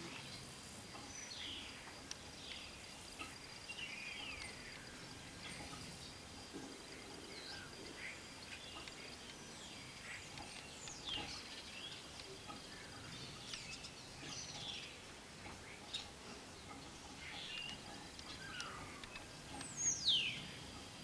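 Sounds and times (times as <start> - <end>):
birds chirping: 0.0 - 21.0
faint background hiss: 0.0 - 21.0.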